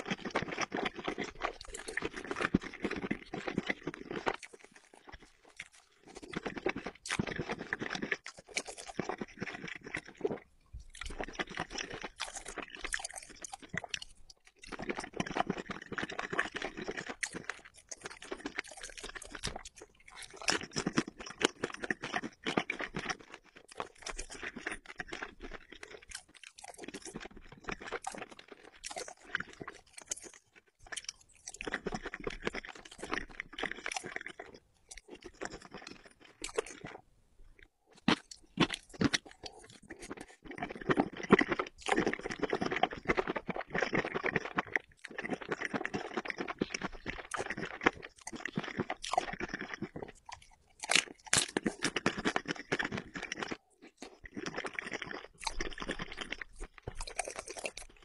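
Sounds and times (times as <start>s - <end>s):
person chewing wet crunchy food: 0.0s - 58.0s.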